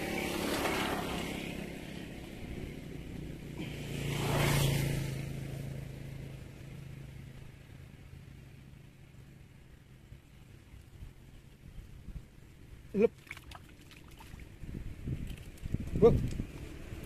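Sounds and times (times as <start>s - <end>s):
vehicles passing: 0.0s - 11.6s, 12.5s - 17.0s.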